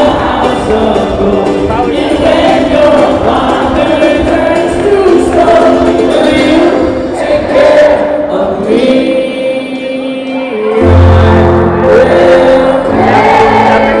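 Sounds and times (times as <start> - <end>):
live concert music with singing: 0.0 - 14.0.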